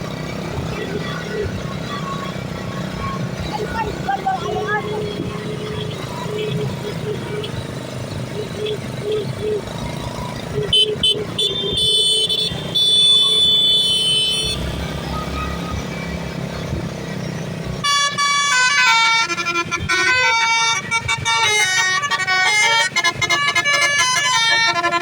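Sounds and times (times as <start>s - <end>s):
bus engine rumble: 0.0s - 25.0s
bus horn toots and melody: 2.0s - 9.8s, 10.5s - 15.9s, 17.7s - 25.0s.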